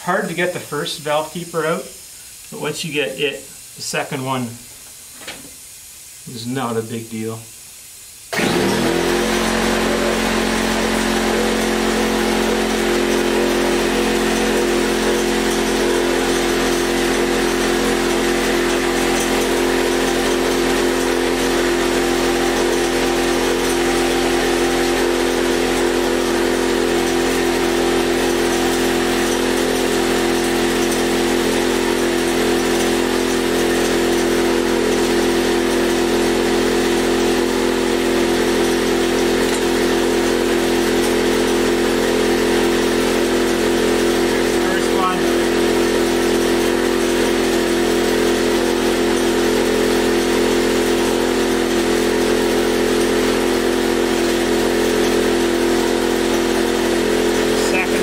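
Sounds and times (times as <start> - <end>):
air compressor running: 7.6 - 58.0.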